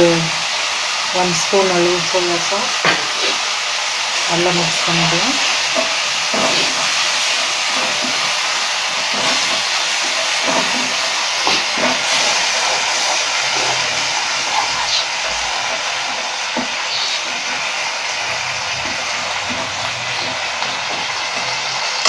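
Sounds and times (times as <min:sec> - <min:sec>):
vegetables sizzling in frying pan: 0:00.0 - 0:22.0.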